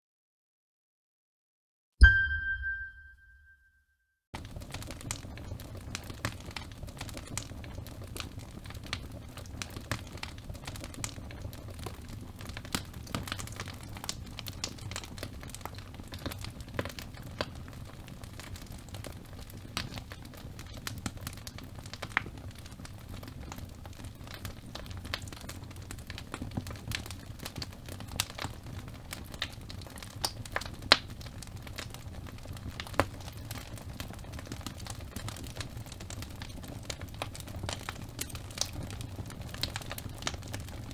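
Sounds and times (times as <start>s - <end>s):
low rumble of flames: 4.4s - 40.9s
wood fire crackling: 4.4s - 40.9s.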